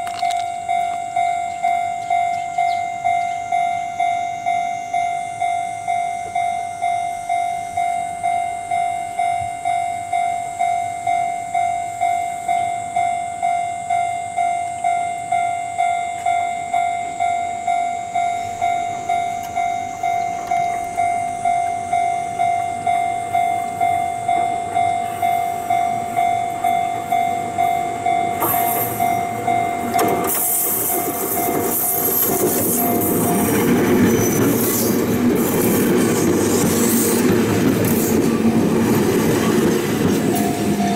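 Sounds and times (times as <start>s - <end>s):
electric train running: 0.0s - 40.9s
level-crossing warning bell ringing: 0.0s - 40.9s.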